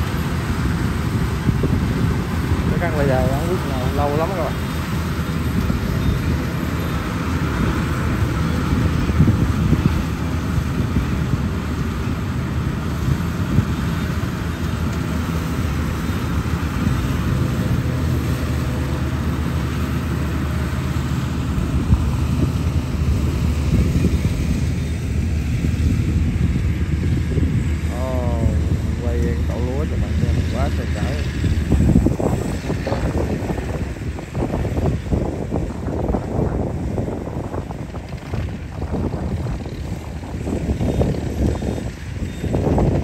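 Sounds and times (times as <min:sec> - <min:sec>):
combine harvester engine hum: 0:00.0 - 0:43.0.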